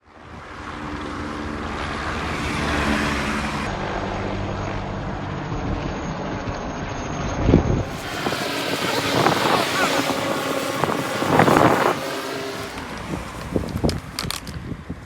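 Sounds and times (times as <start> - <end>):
motor engine noise: 0.0 - 15.0
road or wind rush: 0.0 - 15.0.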